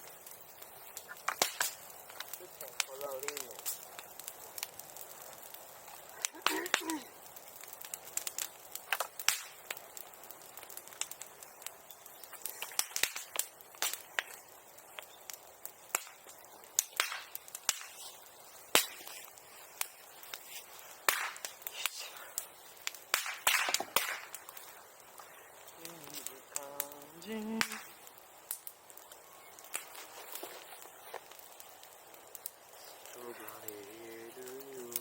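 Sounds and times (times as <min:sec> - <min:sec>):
bonfire crackling and popping: 0:00.0 - 0:35.0.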